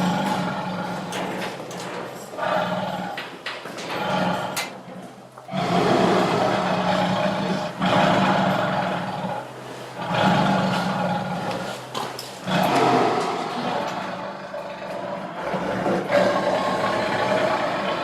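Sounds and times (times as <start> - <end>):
tiger roaring and growling: 0.0 - 18.0.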